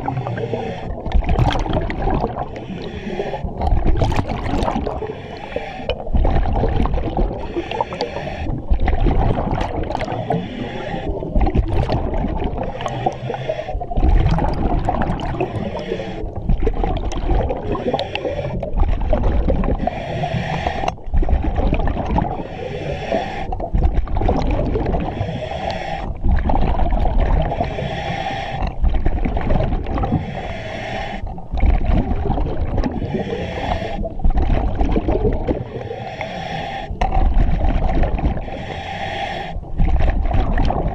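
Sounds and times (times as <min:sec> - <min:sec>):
low rumble of bubbles: 0:00.0 - 0:38.9, 0:39.5 - 0:40.9
diver breathing through regulator: 0:00.0 - 0:40.9.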